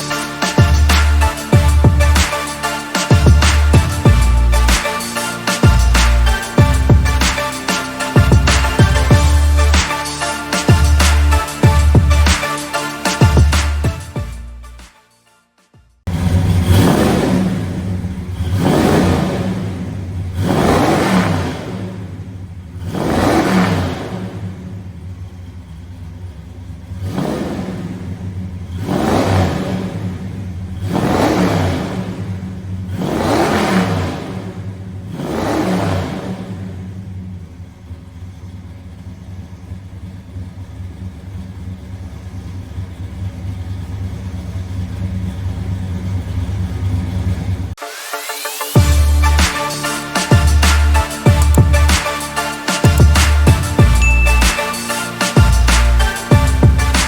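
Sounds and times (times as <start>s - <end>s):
car engine revving: 0.0s - 14.9s, 16.0s - 57.0s.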